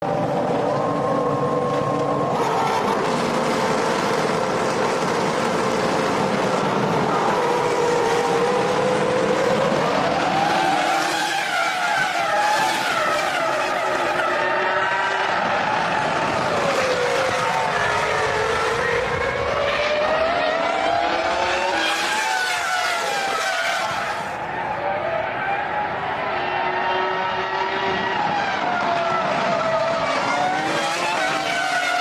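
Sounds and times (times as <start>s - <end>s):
racing car engines at high revs: 0.0s - 32.0s.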